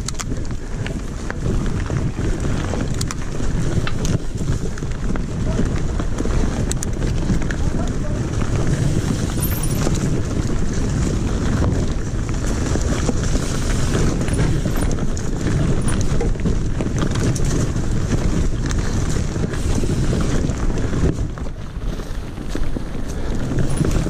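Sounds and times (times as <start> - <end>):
bike clattering over bumps: 0.0 - 24.0
tyres rumbling on dirt: 0.0 - 24.0
wind buffeting microphone: 0.0 - 24.0.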